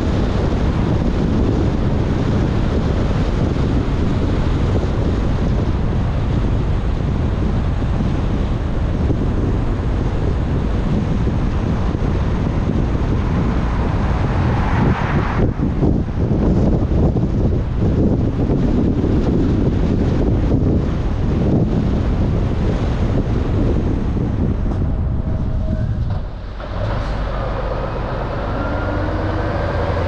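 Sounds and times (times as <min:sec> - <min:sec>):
tyres on wet road: 0:00.0 - 0:30.0
wind buffeting microphone: 0:00.0 - 0:30.0.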